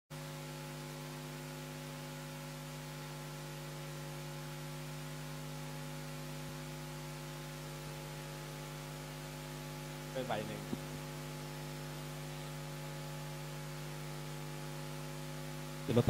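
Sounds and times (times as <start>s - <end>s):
electrical mains hum: 0.1s - 16.0s
constant hiss: 0.2s - 16.0s.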